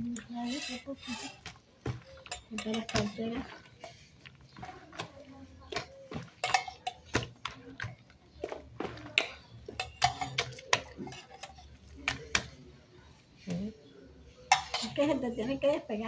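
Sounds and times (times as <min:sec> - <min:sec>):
hands kneading sticky dough: 0:00.0 - 0:13.6.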